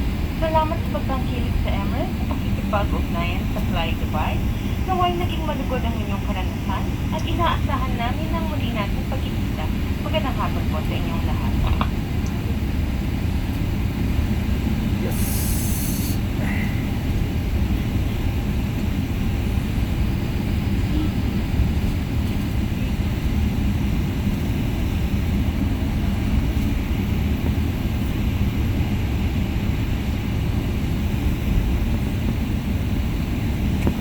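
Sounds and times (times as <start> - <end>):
jet airliner cabin rumble: 0.0 - 34.0.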